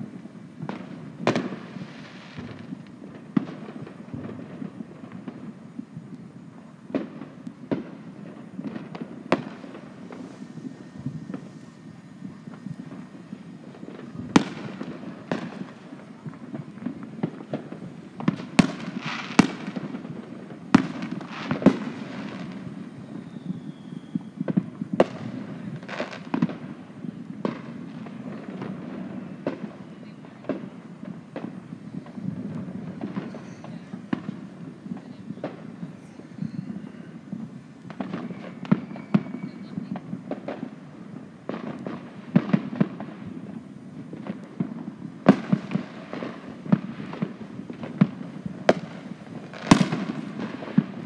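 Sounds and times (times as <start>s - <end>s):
fireworks bangs: 0.0s - 51.0s.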